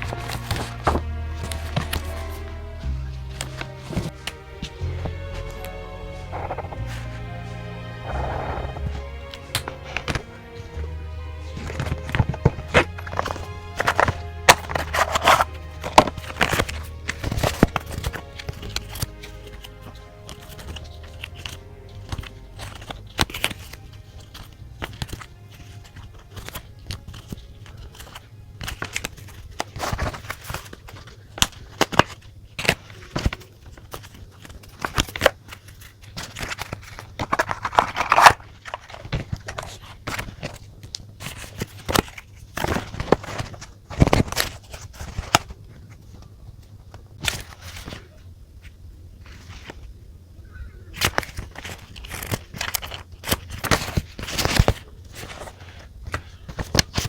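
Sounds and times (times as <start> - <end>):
paper rustling: 0.0 - 10.8, 11.4 - 50.0, 50.9 - 57.0
faint background music: 0.0 - 57.0.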